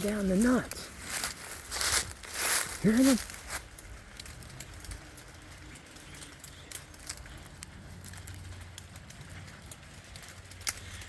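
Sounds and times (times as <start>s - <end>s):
nuts falling through branches: 0.0s - 11.0s.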